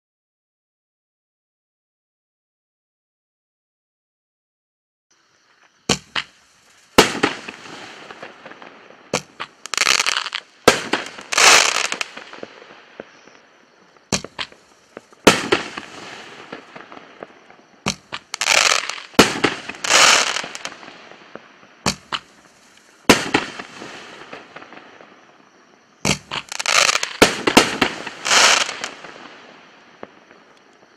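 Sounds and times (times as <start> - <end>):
firework crackle: 5.9 - 30.8
firework bangs: 5.9 - 30.9.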